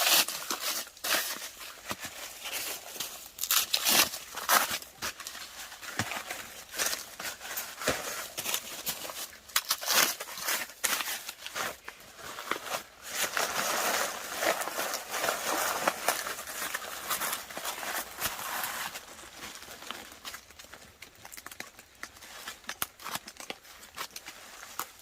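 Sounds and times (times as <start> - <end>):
rustling and crackling: 0.0 - 25.0.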